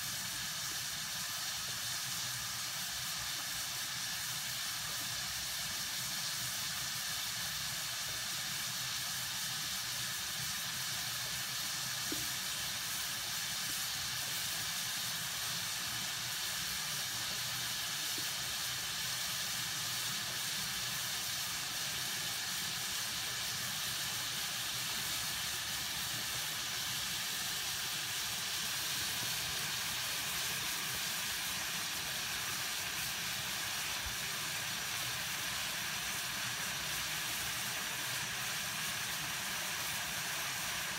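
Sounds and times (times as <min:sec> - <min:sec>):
pot of water hissing on burner: 0:00.0 - 0:40.9.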